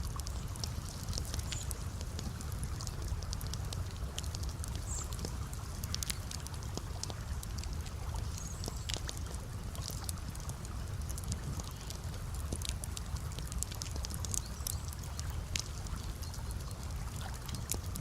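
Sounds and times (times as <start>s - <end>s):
campfire crackling and popping: 0.0s - 18.0s
water trickling: 0.0s - 18.0s.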